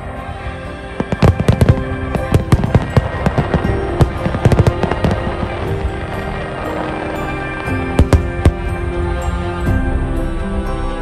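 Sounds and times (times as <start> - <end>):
fireworks bangs and crackles: 0.0 - 9.8
music with held tones: 0.0 - 11.0.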